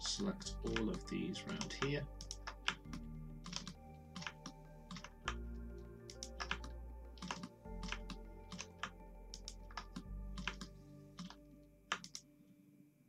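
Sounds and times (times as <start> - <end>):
soft ambient music: 0.0 - 13.0
keyboard and mouse clicks: 0.7 - 5.4, 6.1 - 12.3.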